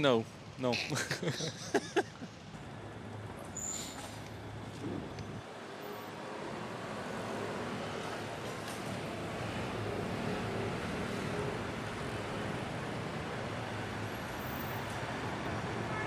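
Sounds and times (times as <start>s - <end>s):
passing cars and scooters: 2.8s - 16.0s.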